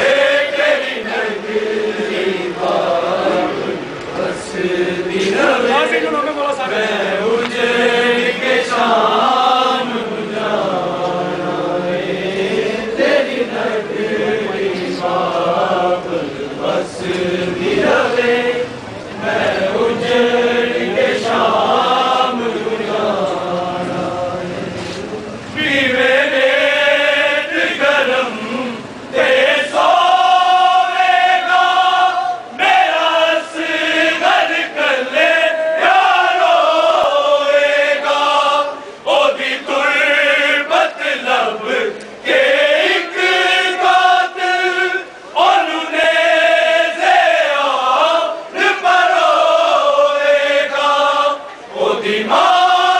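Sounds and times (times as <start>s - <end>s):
men chanting a lament: 0.0s - 52.9s.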